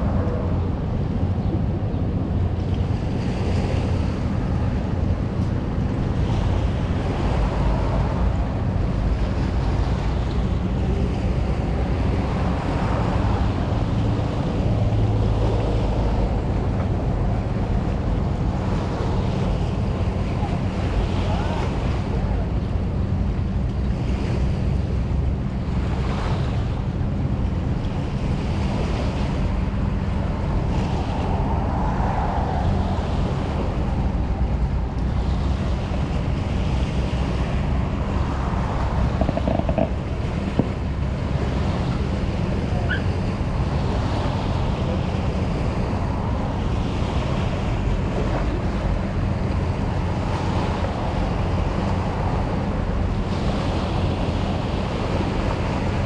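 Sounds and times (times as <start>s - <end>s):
rushing wash like surf: 0.0s - 56.0s
wind rumbling on microphone: 0.0s - 56.0s.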